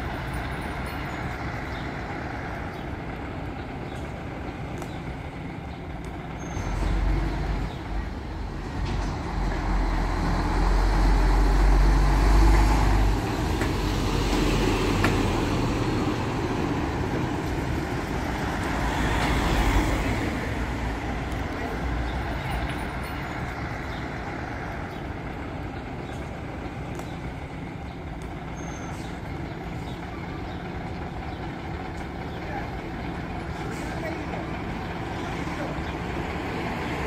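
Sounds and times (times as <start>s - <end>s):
lorry diesel engine rumble: 0.0s - 37.0s.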